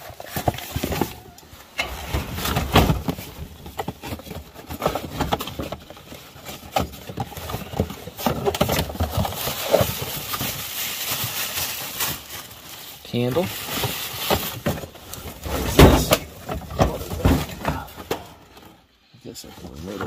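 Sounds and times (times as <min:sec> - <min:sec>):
items knocking and scraping in a box: 0:00.0 - 0:20.0.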